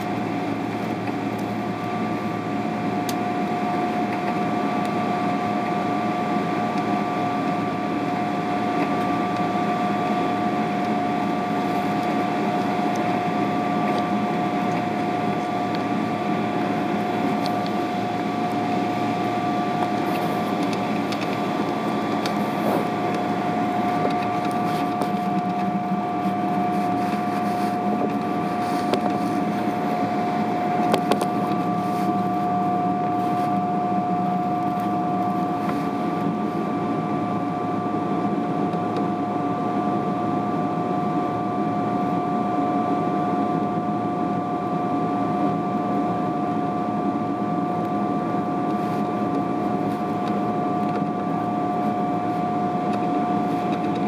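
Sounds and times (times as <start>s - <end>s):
aircraft cabin rumble and hiss: 0.0s - 54.0s
steady whining tones: 0.0s - 54.0s.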